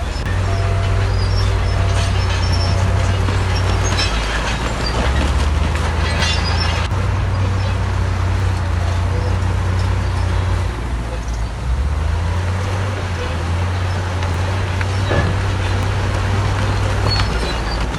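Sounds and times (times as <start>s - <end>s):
bulldozer diesel engine running: 0.0s - 17.9s
metal tracks clanking and squealing: 0.0s - 17.9s.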